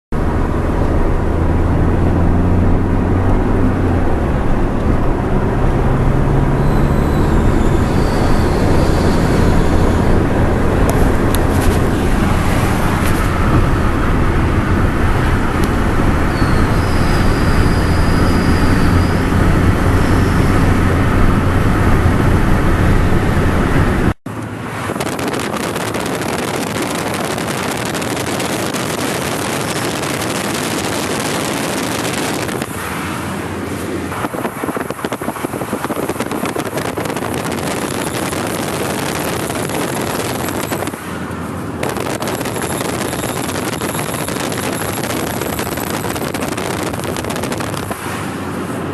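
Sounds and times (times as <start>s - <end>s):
car accelerating heard from inside: 0.2s - 40.9s.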